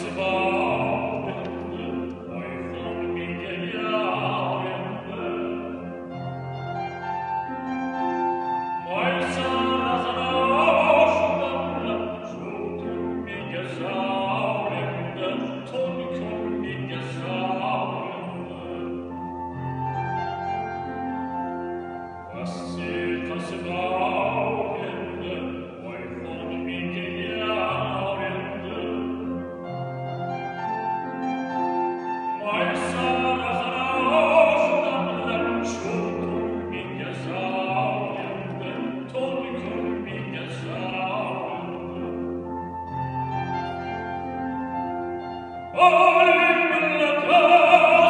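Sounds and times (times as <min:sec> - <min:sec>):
man singing opera: 0:00.0 - 0:06.8, 0:08.0 - 0:19.6, 0:22.2 - 0:30.4, 0:32.3 - 0:42.8, 0:45.6 - 0:48.0
piano accompaniment: 0:00.0 - 0:48.0.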